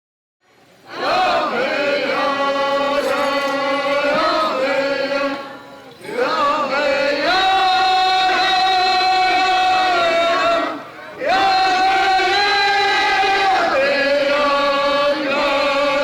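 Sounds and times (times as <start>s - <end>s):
chanting in long held notes: 0.8s - 16.0s.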